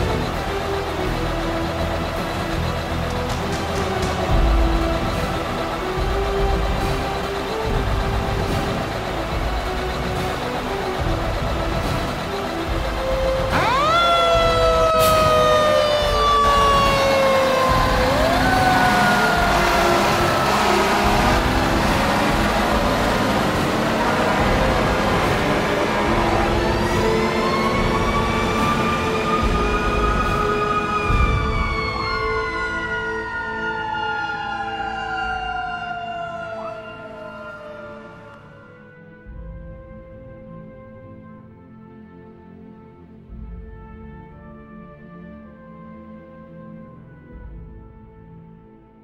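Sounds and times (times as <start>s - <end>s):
fire engine siren wailing: 0.0s - 47.6s.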